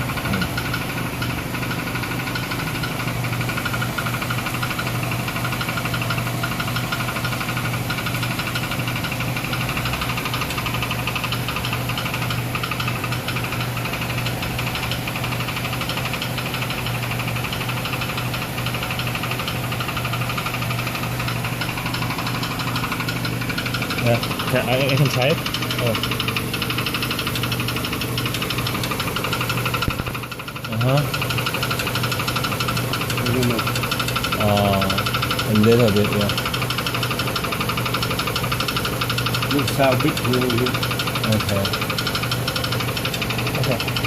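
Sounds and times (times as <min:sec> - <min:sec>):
car engine running: 0:00.0 - 0:44.0
rapid knocking under hood: 0:00.0 - 0:44.0.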